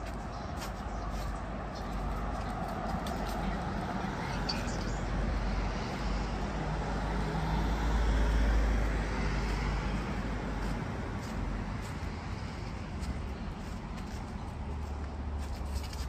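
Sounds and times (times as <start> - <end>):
road traffic: 0.0 - 16.0
vehicle passing rumble: 0.0 - 16.0.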